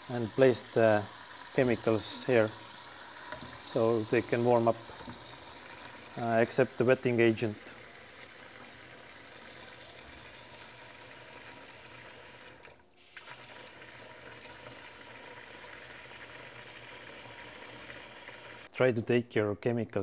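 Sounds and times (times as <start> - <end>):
tap water running into sink: 0.0 - 18.7.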